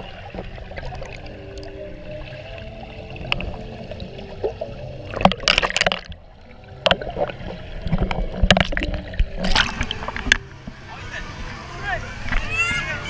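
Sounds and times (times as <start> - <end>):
dull underwater rumble: 0.0 - 12.6
water splashing and gurgling: 0.0 - 13.0.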